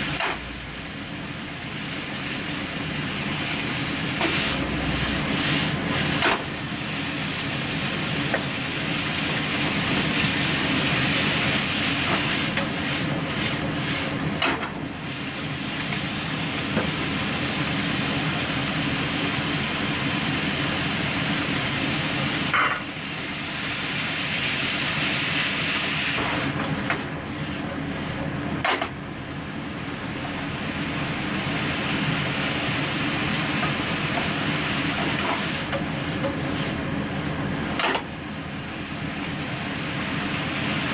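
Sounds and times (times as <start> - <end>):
bean sprouts sizzling in a pan: 0.0 - 40.9.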